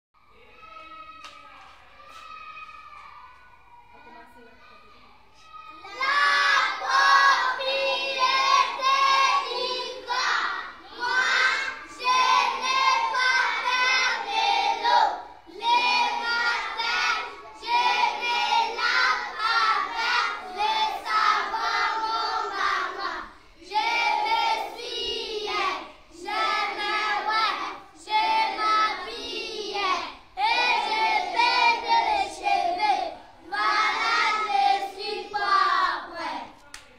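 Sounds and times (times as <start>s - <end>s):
children's choir singing in unison: 5.8s - 36.6s.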